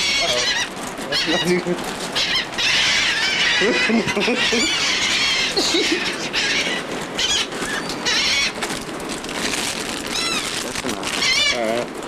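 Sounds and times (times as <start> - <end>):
gulls squealing: 0.0 - 8.6, 10.0 - 11.8.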